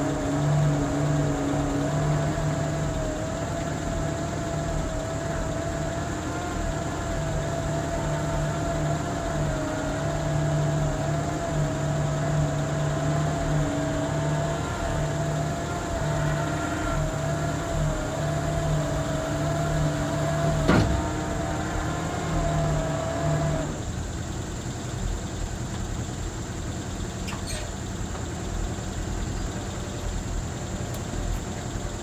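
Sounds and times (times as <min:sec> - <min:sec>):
steady engine whine: 0:00.0 - 0:32.0
truck engine idling: 0:00.0 - 0:32.0.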